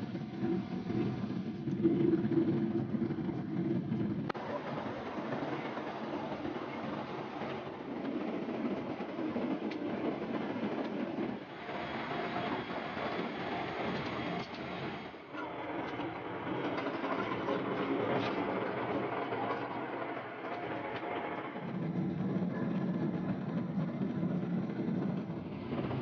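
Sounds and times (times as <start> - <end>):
aircraft cabin rushing rumble: 0.1 - 26.0.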